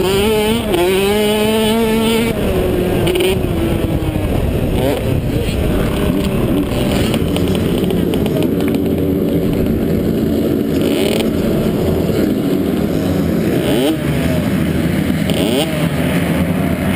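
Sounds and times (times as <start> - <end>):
two-stroke motorbike engine running: 0.0 - 16.9.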